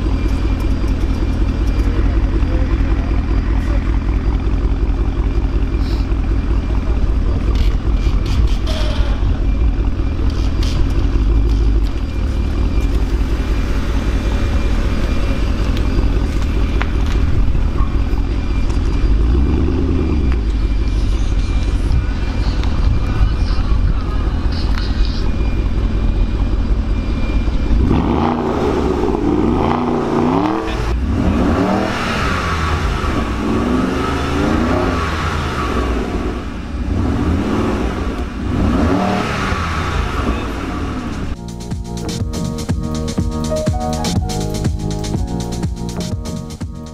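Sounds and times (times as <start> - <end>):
car engine idling and revving: 0.0 - 46.9.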